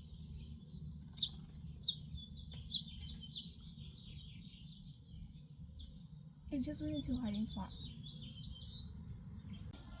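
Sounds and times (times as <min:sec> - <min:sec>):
low steady rumble: 0:00.0 - 0:10.0
small bird chirping: 0:00.0 - 0:10.0.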